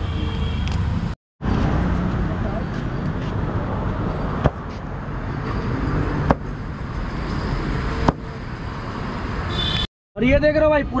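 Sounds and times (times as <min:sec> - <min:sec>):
steady outdoor rumble: 0:00.0 - 0:11.0.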